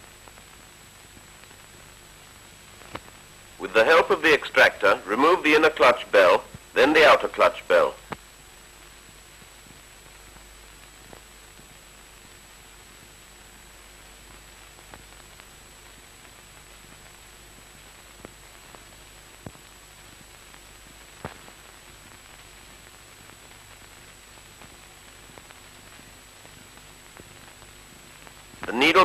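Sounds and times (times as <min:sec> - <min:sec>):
faint low hum: 0:00.0 - 0:29.0
film soundtrack hiss: 0:00.0 - 0:29.0.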